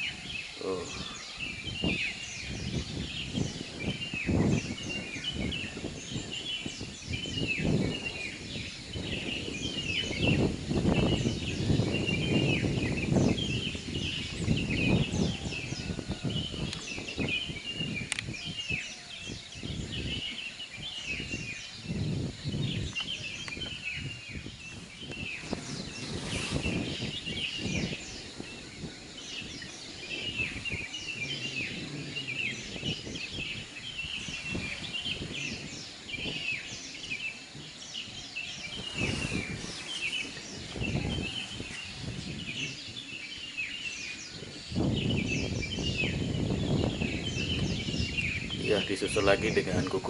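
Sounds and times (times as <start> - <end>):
birds chirping: 0.0 - 50.0
wind rumble on microphone: 0.0 - 50.0.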